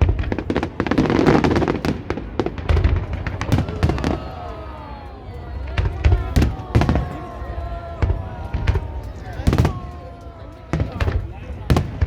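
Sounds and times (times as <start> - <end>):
fireworks bangs and cracks: 0.0 - 12.0
fireworks crackling: 0.0 - 12.0.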